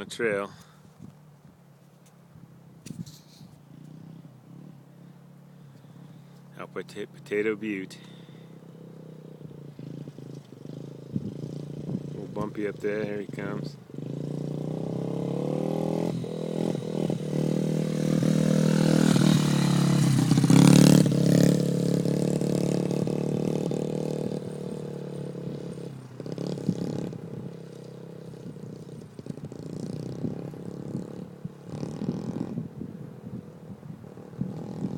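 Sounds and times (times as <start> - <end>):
dirt bike passing by: 2.4 - 34.9.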